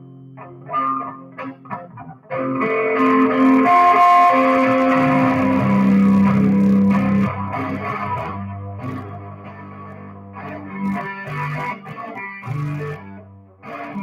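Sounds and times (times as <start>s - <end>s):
electric guitar notes: 0.0s - 14.0s.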